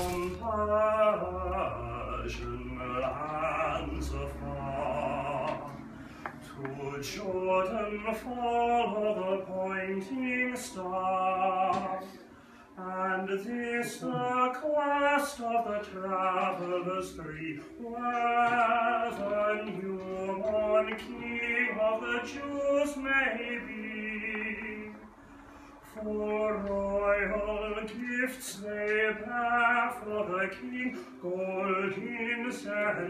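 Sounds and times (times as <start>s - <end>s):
man singing unaccompanied: 0.0s - 25.2s, 25.8s - 33.0s.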